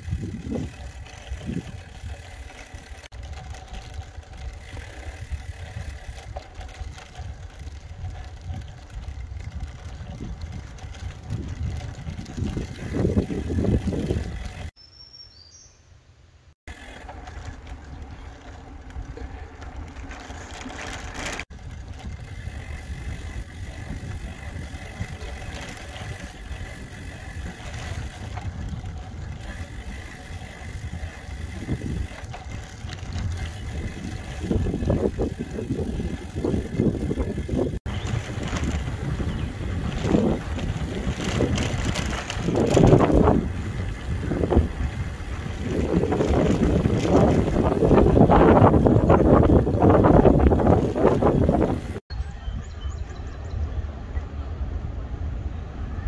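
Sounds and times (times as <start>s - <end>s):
road and wind rumble: 0.0s - 15.7s, 16.4s - 56.0s.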